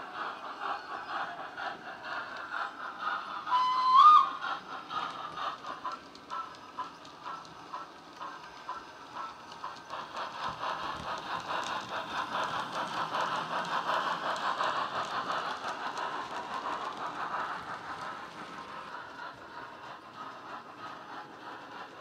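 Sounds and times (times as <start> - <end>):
model locomotive sound from speaker: 0.0 - 22.0.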